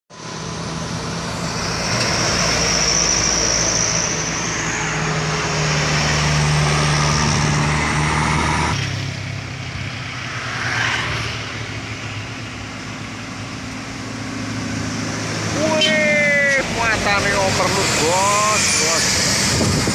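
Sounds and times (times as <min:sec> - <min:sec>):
diesel truck engine at full throttle: 0:00.1 - 0:19.9.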